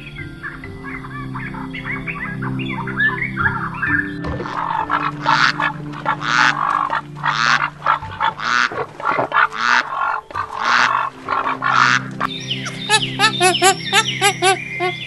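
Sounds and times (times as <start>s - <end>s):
geese honking: 1.0s - 15.0s.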